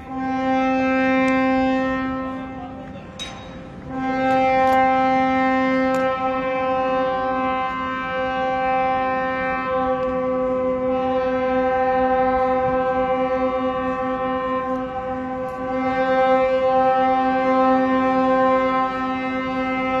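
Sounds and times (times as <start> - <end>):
ship's horn blast: 0.0 - 20.0.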